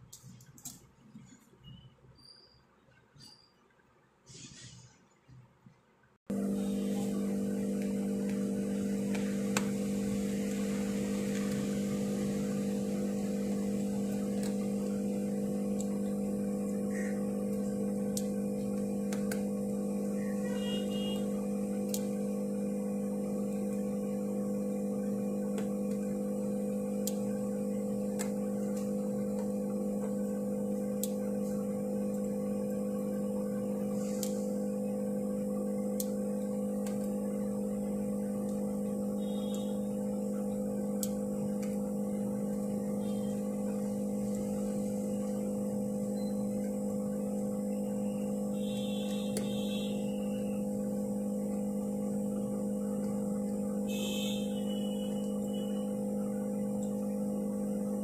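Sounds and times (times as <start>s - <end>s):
low hum of held tones: 6.3s - 58.0s.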